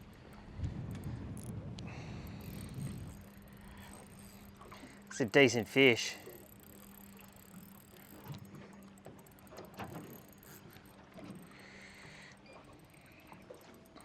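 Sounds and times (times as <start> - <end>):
fishing reel whirring and ticking: 0.0 - 14.0
low steady hum: 0.0 - 14.0.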